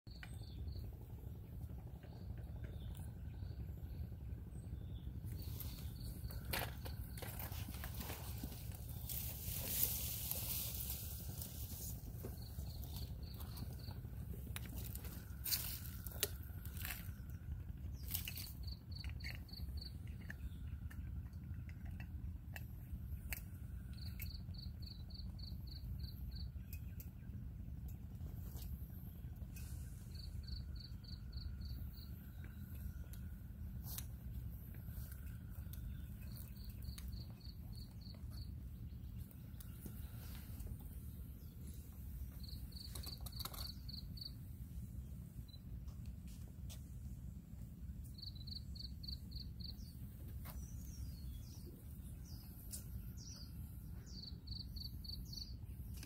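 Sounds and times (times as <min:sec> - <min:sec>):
low steady rumble: 0:00.1 - 0:56.0.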